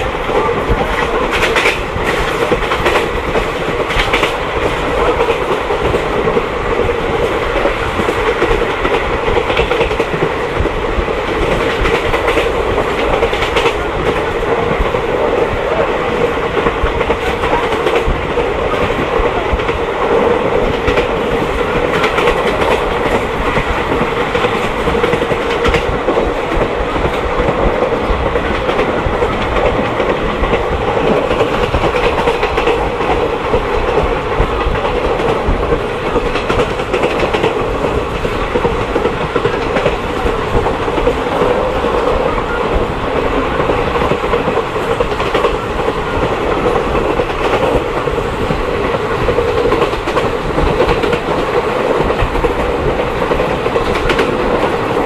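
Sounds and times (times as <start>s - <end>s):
train rumbling and rattling: 0.0s - 55.0s.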